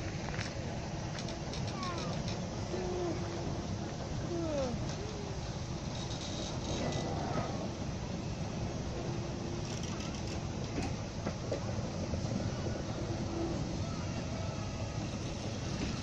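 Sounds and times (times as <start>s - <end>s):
passengers' voices: 0.0s - 16.0s
train wheels rumbling on rails: 0.0s - 16.0s.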